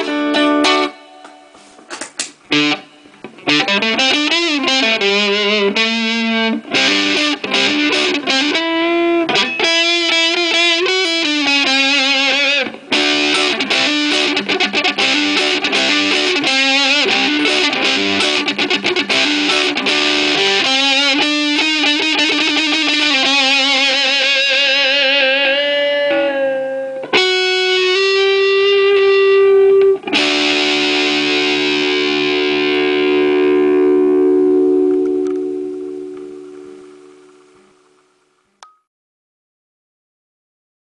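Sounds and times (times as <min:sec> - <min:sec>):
amplified electric guitar: 0:00.0 - 0:38.4.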